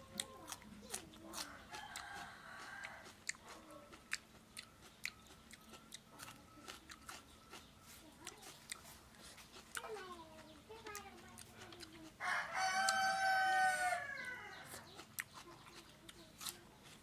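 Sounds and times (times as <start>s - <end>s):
person chewing: 0.0s - 17.0s.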